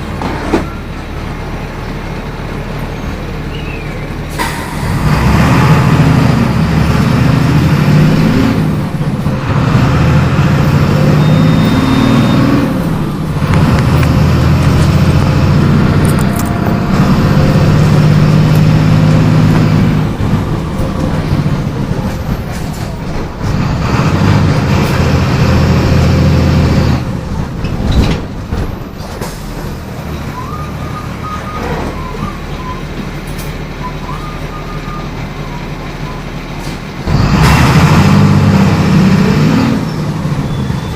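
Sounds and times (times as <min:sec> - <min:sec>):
bus diesel engine pulling hard: 0:00.0 - 0:40.9.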